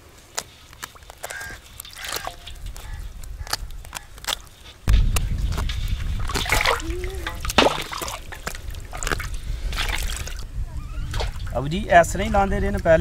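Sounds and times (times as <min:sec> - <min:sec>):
wet feathers being plucked: 0:00.0 - 0:10.5
water splashing and dripping: 0:00.0 - 0:11.8.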